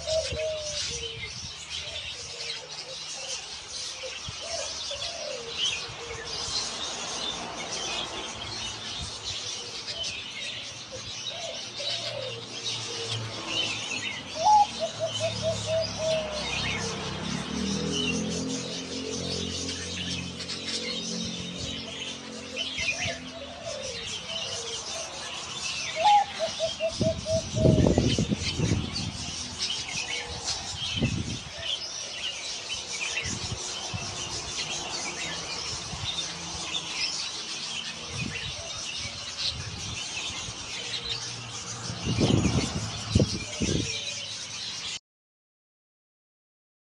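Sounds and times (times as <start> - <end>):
dove cooing: 0.0 - 6.4, 8.9 - 35.6, 36.2 - 39.4, 40.2 - 41.5, 43.4 - 44.2
small birds chirping: 0.0 - 45.0.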